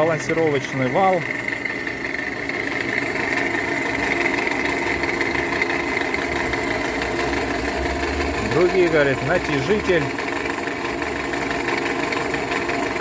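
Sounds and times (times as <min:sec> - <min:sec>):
car engine idling with clatter: 0:00.0 - 0:13.0.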